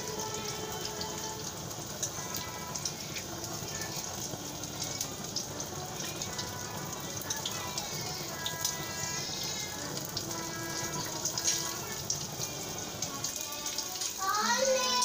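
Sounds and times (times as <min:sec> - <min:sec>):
pot crackling and bubbling: 0:00.0 - 0:14.3
faint music: 0:00.0 - 0:15.0.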